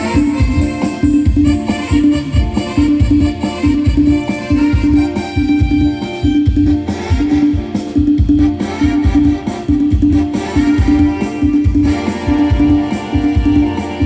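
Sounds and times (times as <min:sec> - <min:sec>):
instrumental music with drum beat: 0:00.0 - 0:14.0.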